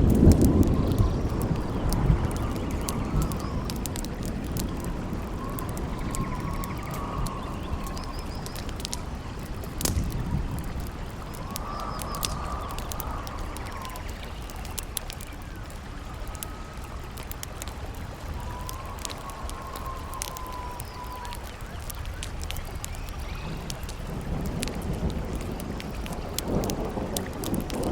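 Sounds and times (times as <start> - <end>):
campfire crackling and popping: 0.0 - 27.9
flowing water: 0.0 - 27.9
howling wind whistle: 0.0 - 27.9.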